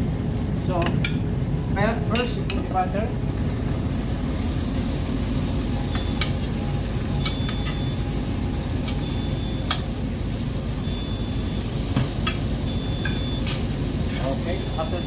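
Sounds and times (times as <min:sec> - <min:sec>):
butter sizzling in a frying pan: 0:02.8 - 0:15.0.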